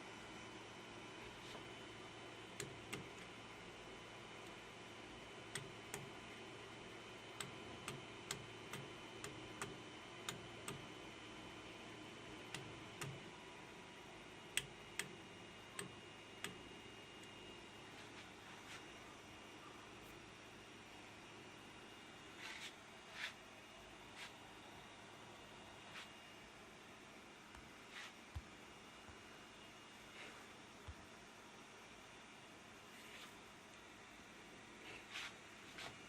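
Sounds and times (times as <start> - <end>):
faint electrical hum: 0.0 - 36.0.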